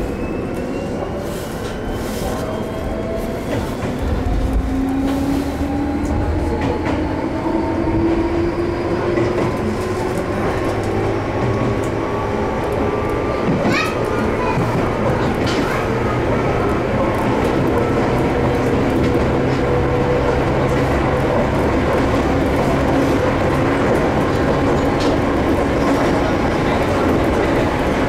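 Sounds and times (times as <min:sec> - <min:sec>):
train wheels rumbling: 0:00.0 - 0:28.0
rail joint clicks: 0:03.4 - 0:28.0.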